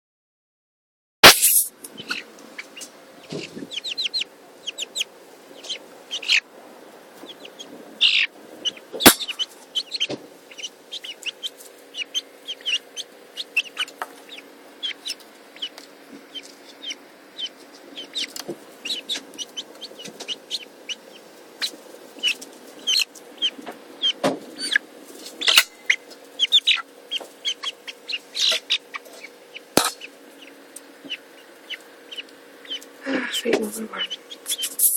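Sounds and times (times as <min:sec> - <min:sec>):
chicks peeping and chirping: 0:01.4 - 0:34.9.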